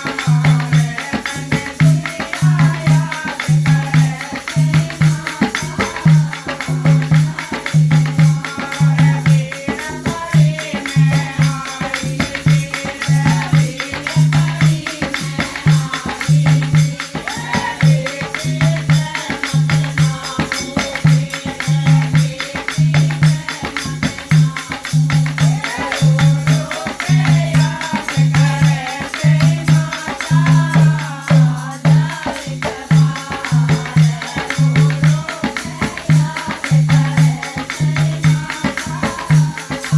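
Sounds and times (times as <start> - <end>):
folk devotional song: 0.0 - 39.9
steady low drum beat: 0.0 - 39.9.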